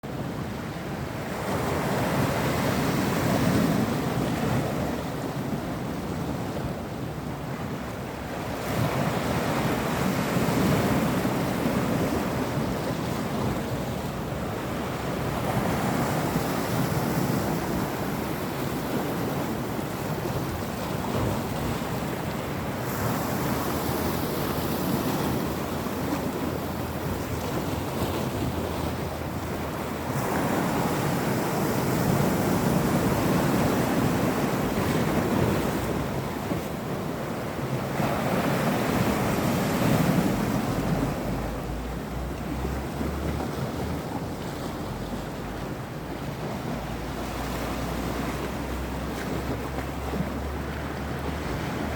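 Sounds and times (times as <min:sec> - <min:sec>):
sea waves washing onto shore: 0:00.1 - 0:51.9.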